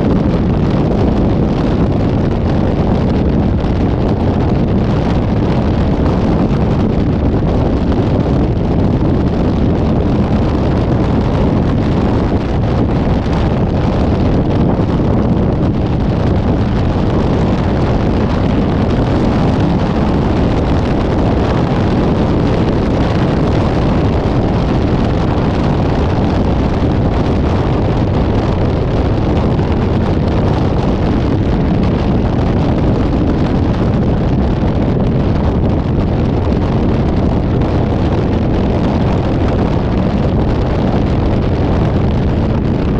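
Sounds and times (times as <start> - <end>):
moving vehicle road and engine noise: 0.0 - 42.9
wind buffeting microphone: 0.0 - 42.9.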